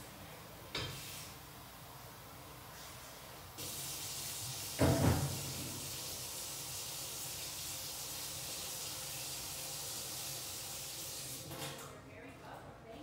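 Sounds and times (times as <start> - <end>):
gas stove hissing: 0.0 - 11.5.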